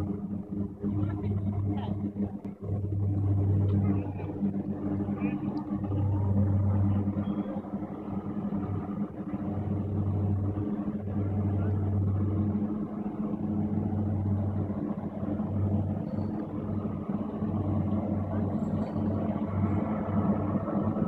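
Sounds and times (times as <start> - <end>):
propeller engine drone: 0.0 - 21.0.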